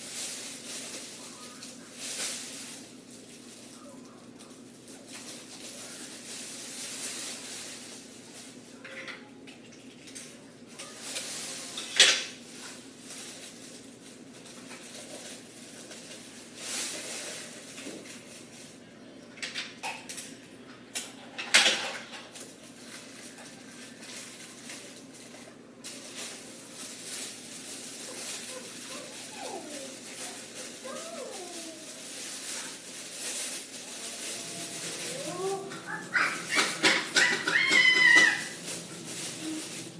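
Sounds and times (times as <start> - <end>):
foil blanket rustling and crinkling: 0.0 - 8.8, 10.1 - 18.8, 22.3 - 39.9.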